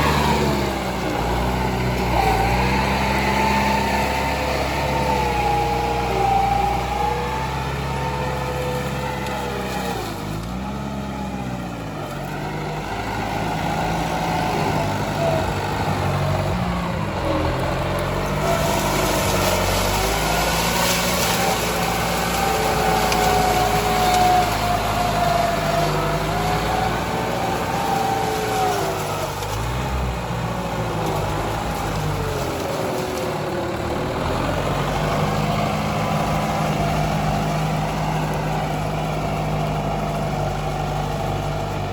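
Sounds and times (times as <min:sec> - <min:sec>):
tractor engine running under load: 0:00.0 - 0:41.9.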